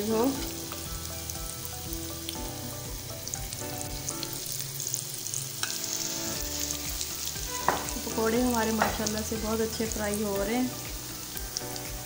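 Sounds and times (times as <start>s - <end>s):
deep-frying in hot oil: 0.0s - 12.0s.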